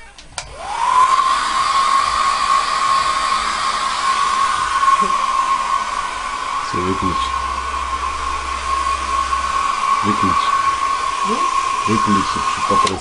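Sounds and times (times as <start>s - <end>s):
hair dryer running: 0.4s - 13.0s.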